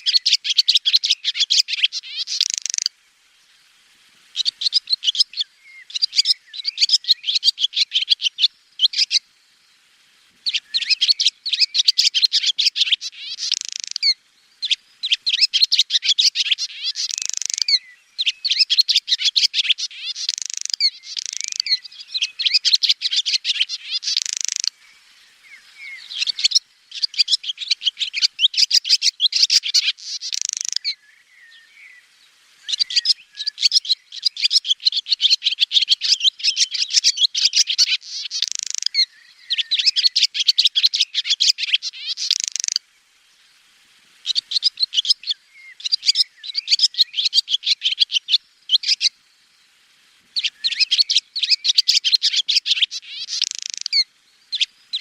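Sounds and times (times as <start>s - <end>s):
swallow twittering: 0.0s - 2.9s, 4.3s - 9.2s, 10.4s - 42.8s, 44.2s - 49.6s, 50.4s - 55.0s.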